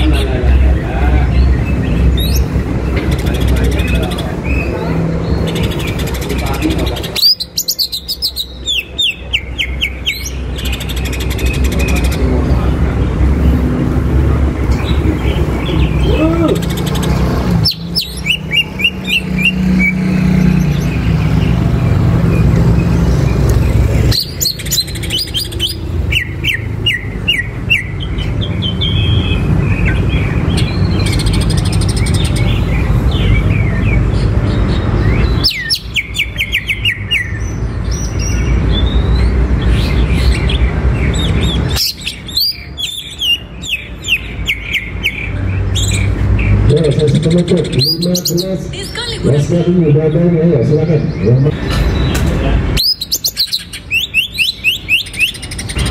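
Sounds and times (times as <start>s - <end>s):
bird rapid chirping song: 0.0s - 55.9s.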